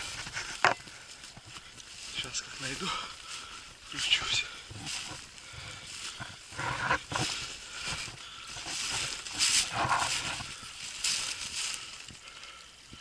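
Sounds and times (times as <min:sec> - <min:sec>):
footsteps crunching through snow: 0:00.0 - 0:12.2
rustling: 0:00.0 - 0:12.6.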